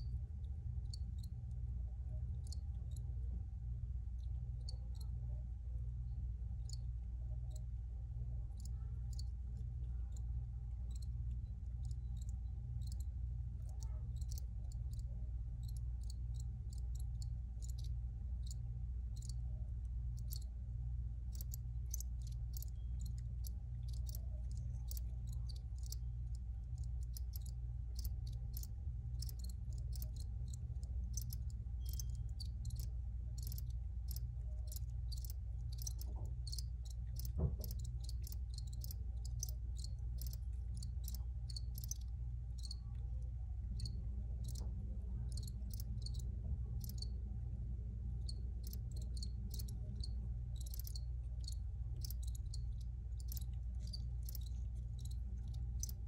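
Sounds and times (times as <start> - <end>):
crickets chirping: 0.0 - 1.4, 2.3 - 3.0, 4.1 - 5.4, 8.5 - 19.4, 20.2 - 20.6, 21.2 - 47.2, 48.1 - 56.0
steady low hum: 0.0 - 56.0.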